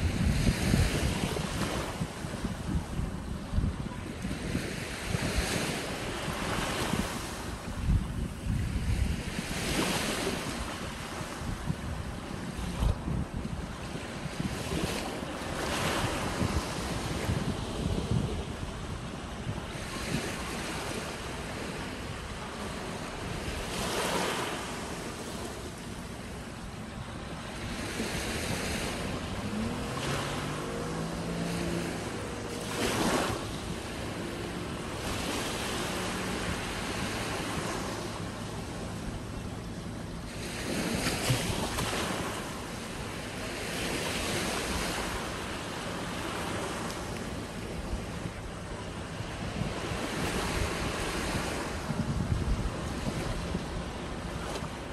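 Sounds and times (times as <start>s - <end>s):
small waves lapping on sand: 0.0s - 54.9s.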